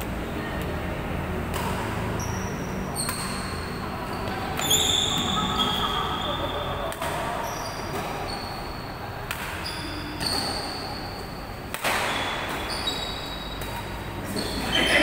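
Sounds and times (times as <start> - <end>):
racket hitting shuttlecock: 1.4 - 14.9
sneakers squeaking on floor: 1.5 - 15.0.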